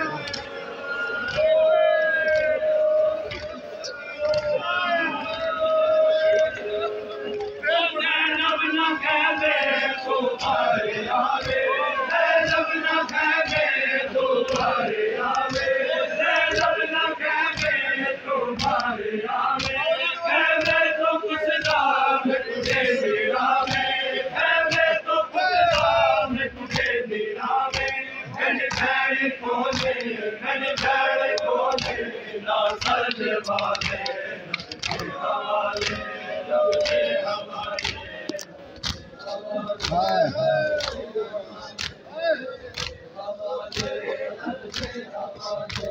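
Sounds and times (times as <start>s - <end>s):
crowd of men chanting: 0.0s - 45.9s.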